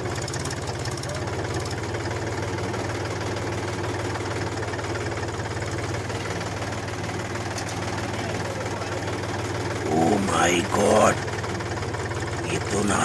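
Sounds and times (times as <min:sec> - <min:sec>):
small tractor engine chugging: 0:00.0 - 0:13.0.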